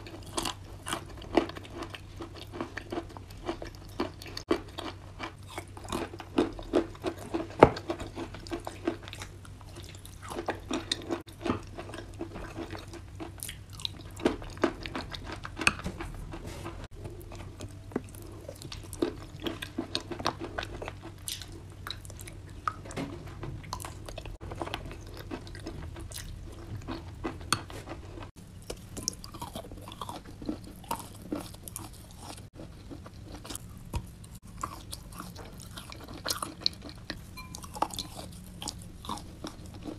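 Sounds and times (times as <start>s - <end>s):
chewing crunchy paste: 0.0s - 23.0s, 23.6s - 39.9s.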